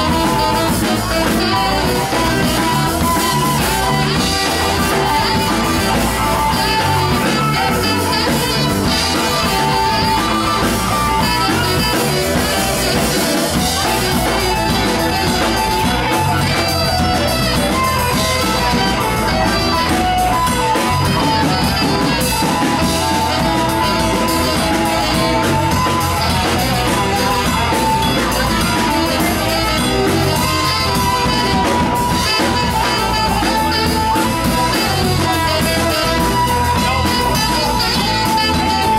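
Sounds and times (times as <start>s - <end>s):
drums: 0.0s - 38.9s
electric guitars: 0.0s - 38.9s
keyboard: 0.0s - 38.9s
saxophone: 0.0s - 38.9s.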